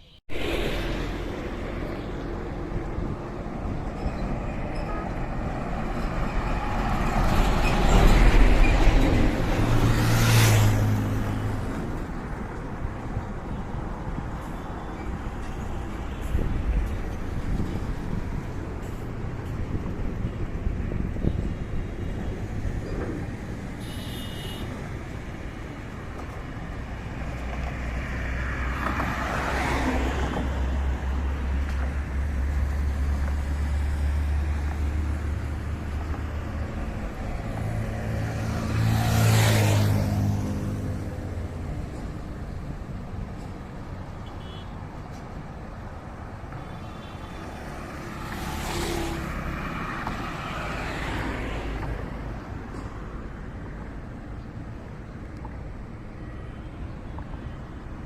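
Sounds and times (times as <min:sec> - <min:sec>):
highway traffic passing: 0:00.0 - 0:58.0.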